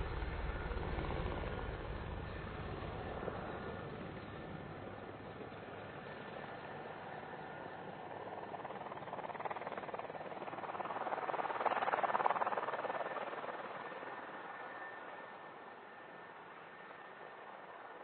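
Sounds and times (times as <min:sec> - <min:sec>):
helicopter flying past: 0:00.0 - 0:18.0.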